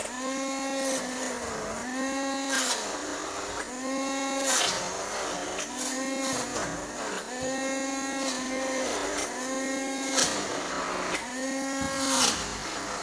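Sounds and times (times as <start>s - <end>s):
electric mixer motor whine: 0.0s - 13.0s.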